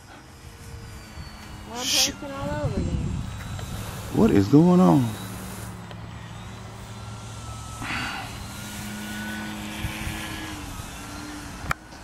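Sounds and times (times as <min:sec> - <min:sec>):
model plane motor drone: 0:00.0 - 0:12.0.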